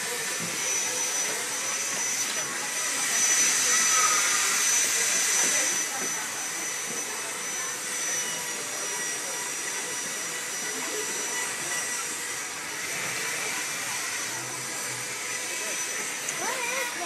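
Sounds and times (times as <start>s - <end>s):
electric die grinder high whine: 0.0s - 17.0s.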